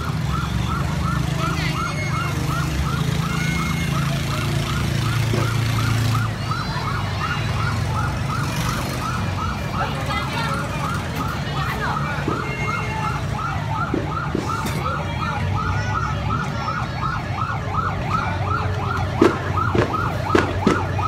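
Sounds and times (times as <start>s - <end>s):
siren yelping: 0.0s - 21.0s.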